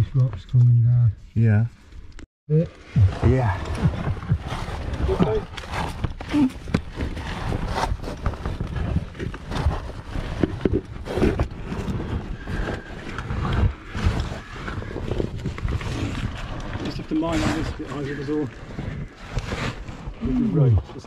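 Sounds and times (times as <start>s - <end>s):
gear scraping against rock: 3.5s - 21.0s.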